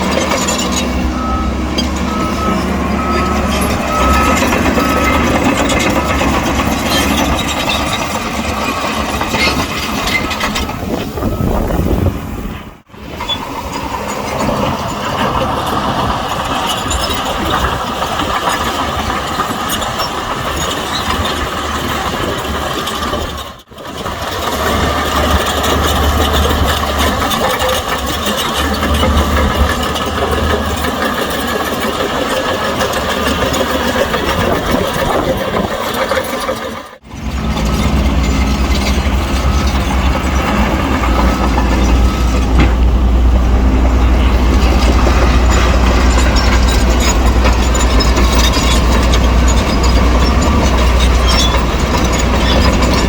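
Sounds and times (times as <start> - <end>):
diesel engine rumbling and clattering: 0.0 - 53.0.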